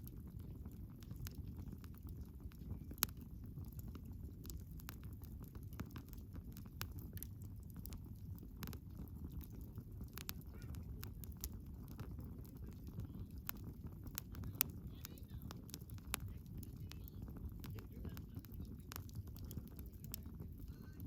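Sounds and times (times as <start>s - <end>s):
low rumble of flames: 0.0s - 21.0s
wood fire popping and snapping: 0.0s - 21.0s.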